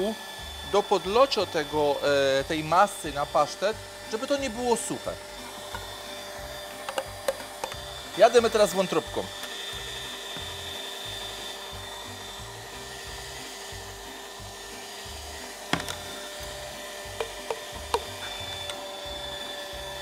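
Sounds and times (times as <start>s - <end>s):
meat grinder motor hum: 0.0s - 20.0s.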